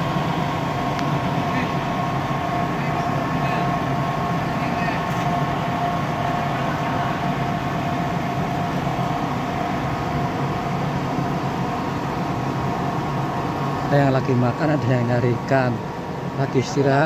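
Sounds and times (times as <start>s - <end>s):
machine drone: 0.0s - 17.0s
steady whine: 0.0s - 17.0s.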